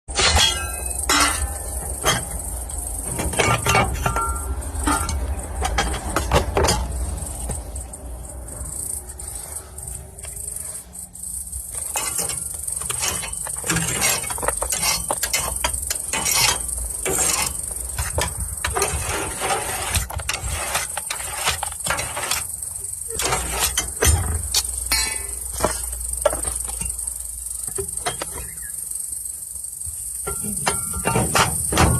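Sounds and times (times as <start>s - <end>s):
tool scraping and clinking ash: 0.1s - 8.0s, 11.6s - 28.8s, 30.2s - 31.9s
insects shrilling: 0.8s - 5.6s, 7.0s - 31.8s.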